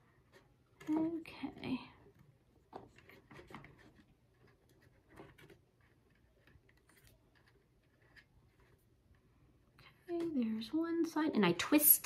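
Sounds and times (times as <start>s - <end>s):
small clicks and rustles of wires: 0.1s - 10.8s.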